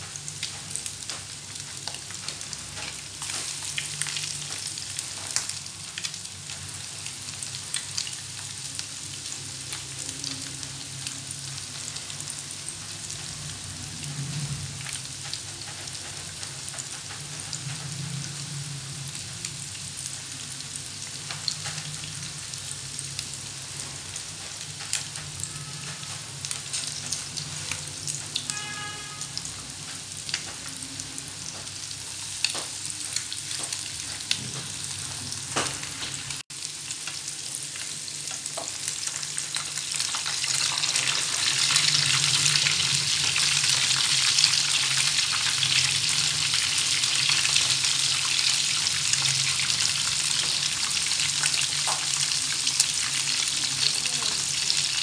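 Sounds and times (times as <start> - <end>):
croquettes sizzling in oil: 0.0 - 55.0.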